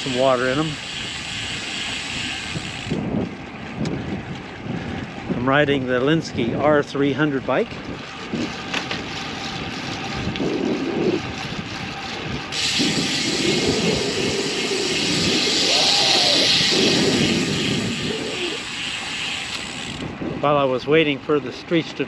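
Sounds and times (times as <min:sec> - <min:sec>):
wind on microphone: 0:00.0 - 0:21.2.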